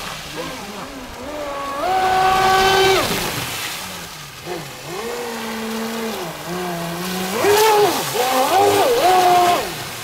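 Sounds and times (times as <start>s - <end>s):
electric boat motor whining: 0.3s - 9.9s.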